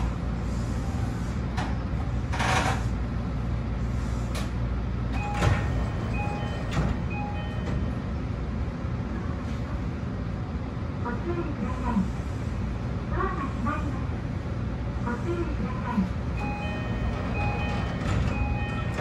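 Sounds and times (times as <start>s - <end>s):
train cab low rumble: 0.0s - 19.0s.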